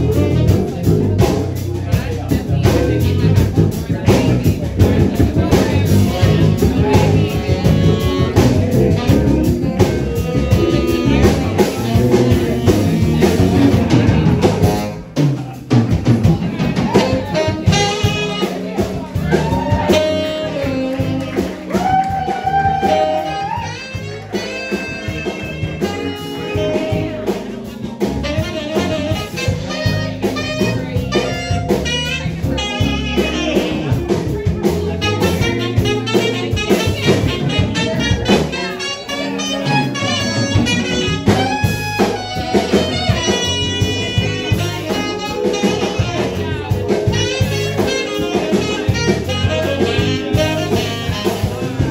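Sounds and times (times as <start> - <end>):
saxophone: 0.0 - 15.2, 16.5 - 51.9
drum kit: 0.0 - 51.9
electric guitar: 0.0 - 51.9.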